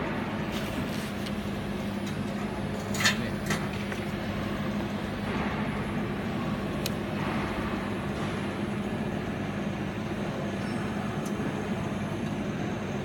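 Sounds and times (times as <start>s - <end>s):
workshop machinery drone: 0.0s - 13.0s.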